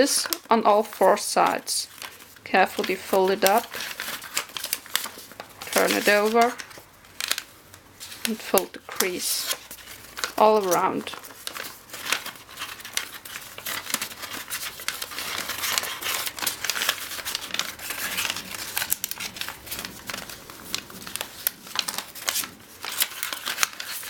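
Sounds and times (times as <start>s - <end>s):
paper crinkling while folded: 0.0s - 24.0s.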